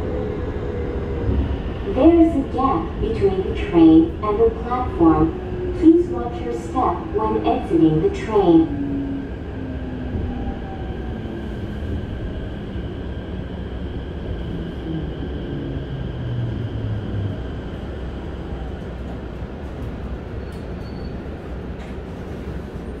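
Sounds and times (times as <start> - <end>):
wheel and rail rumble: 0.0 - 23.0.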